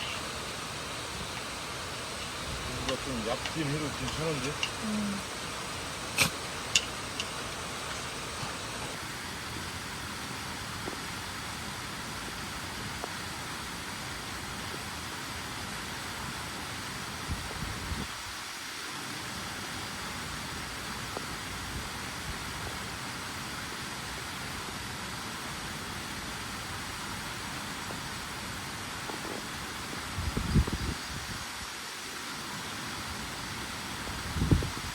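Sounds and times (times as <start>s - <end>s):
steady background hiss: 0.0s - 34.9s.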